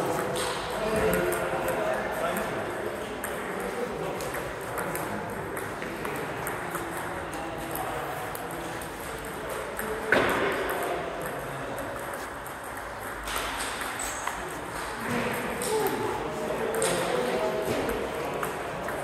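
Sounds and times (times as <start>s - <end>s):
table tennis balls clicking: 0.1s - 15.9s.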